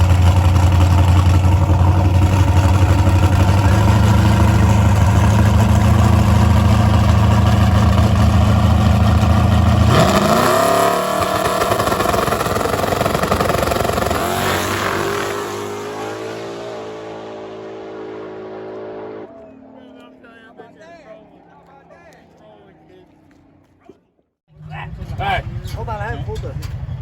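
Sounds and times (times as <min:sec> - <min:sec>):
drag truck engine revving: 0:00.0 - 0:23.7.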